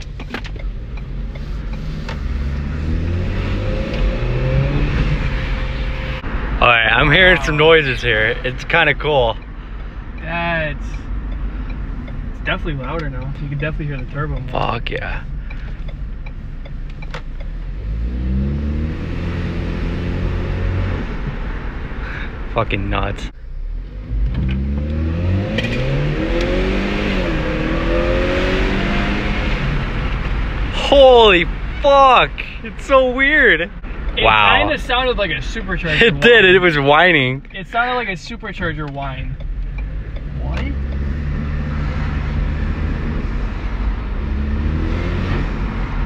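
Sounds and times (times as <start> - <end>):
turbocharged car engine accelerating: 0.7 - 46.0.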